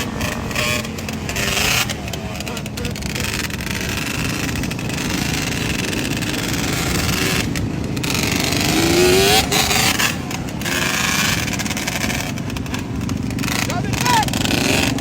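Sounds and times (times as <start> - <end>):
steady rushing noise: 0.0 - 15.0
two-stroke engine running: 0.0 - 15.0.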